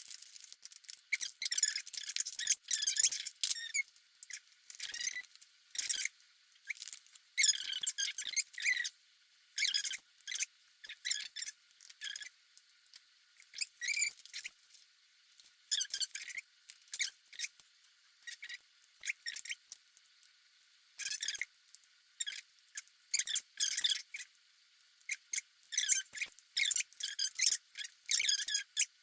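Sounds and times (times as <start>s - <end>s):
crinkles and squeaks of handling: 0.0s - 9.0s, 9.6s - 20.3s, 21.0s - 24.4s, 25.0s - 29.0s.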